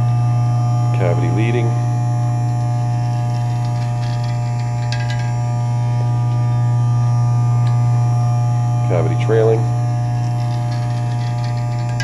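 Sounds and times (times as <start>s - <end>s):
vibratory feeder humming: 0.0s - 12.0s.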